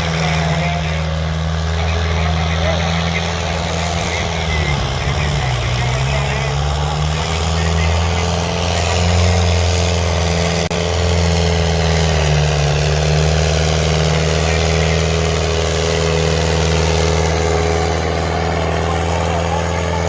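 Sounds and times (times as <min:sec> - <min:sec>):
diesel tractor engine droning: 0:00.0 - 0:20.0.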